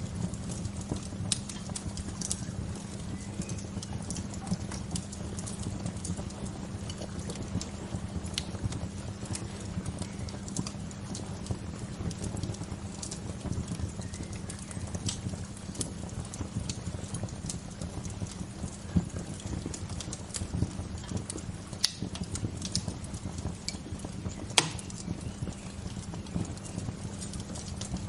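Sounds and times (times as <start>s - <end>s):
low rumble of flames: 0.0s - 28.0s
sharp pops of fire: 0.0s - 28.0s
wood fire crackling: 0.0s - 28.0s.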